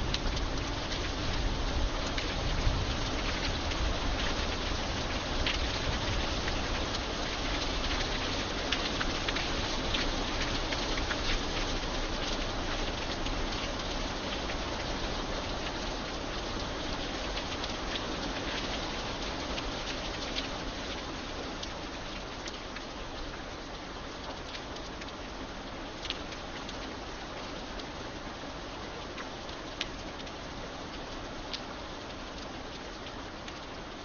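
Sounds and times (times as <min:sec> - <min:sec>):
rain on a metal bridge: 0:00.0 - 0:34.0.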